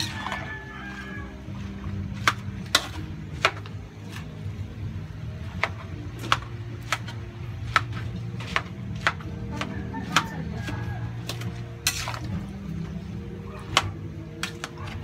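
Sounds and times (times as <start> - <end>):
metal spatula scraping a wok: 0.0 - 15.0.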